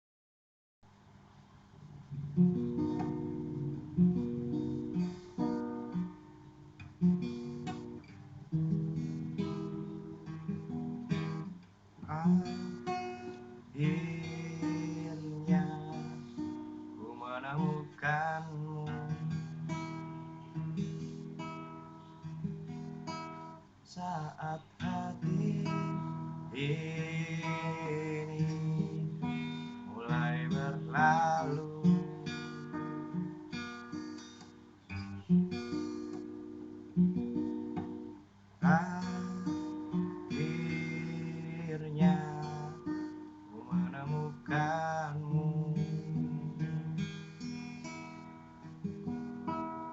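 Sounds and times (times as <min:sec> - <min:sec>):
plucked and strummed strings: 0:02.0 - 0:49.9.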